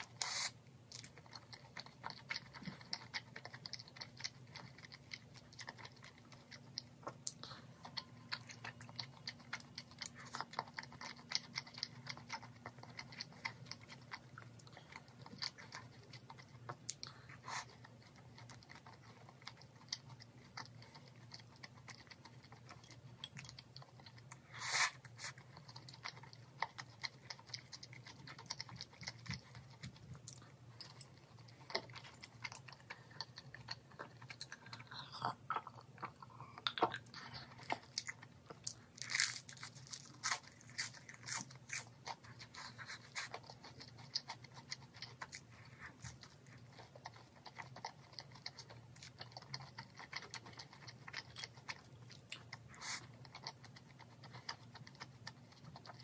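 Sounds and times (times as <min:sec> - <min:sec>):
chewing crispy fried chicken: 0:00.0 - 0:56.0.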